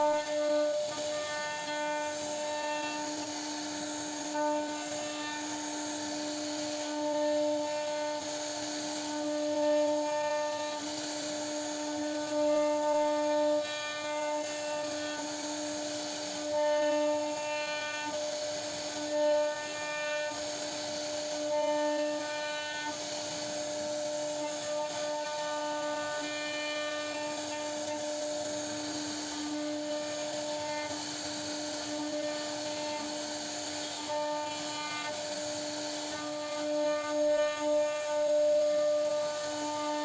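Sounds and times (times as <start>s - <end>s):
router spindle whine: 0.0s - 40.0s
wood cutting hiss: 0.0s - 40.0s.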